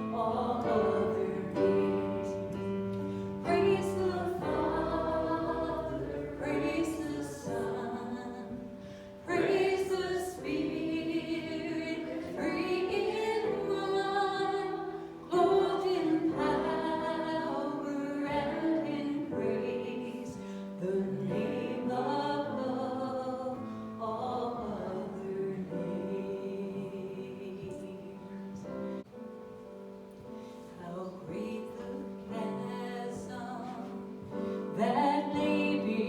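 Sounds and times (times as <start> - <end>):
church worship singing with instruments: 0.0 - 29.1, 30.0 - 36.0.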